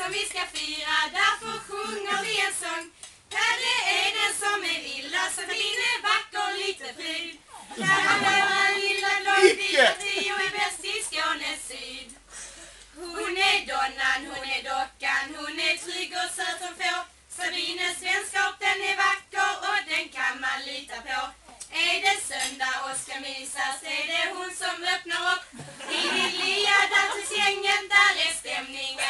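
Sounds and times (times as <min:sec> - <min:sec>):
women singing together: 0:00.0 - 0:12.3, 0:12.9 - 0:29.0.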